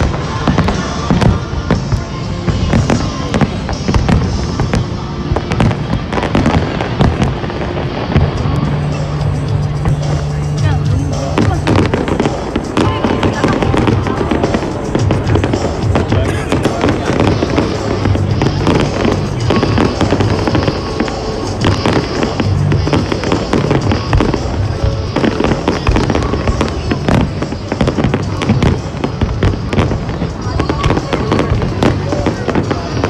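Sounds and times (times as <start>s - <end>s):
fireworks bursts and crackles: 0.0s - 33.0s
music playing: 0.0s - 33.0s.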